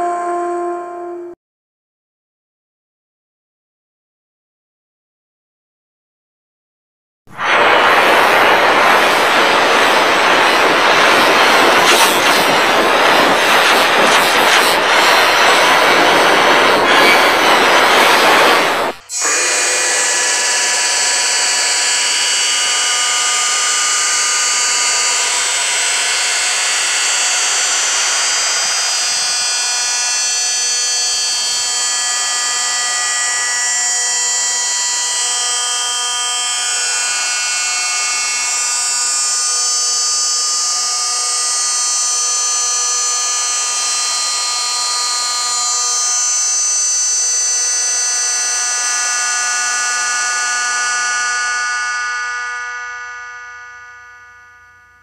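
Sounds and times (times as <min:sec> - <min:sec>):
harsh electronic drone: 0:07.3 - 0:54.2.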